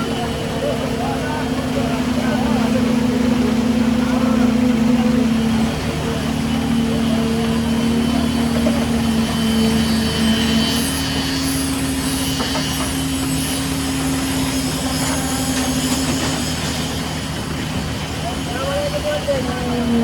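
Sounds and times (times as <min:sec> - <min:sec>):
concrete pump engine drone: 0:00.0 - 0:20.0.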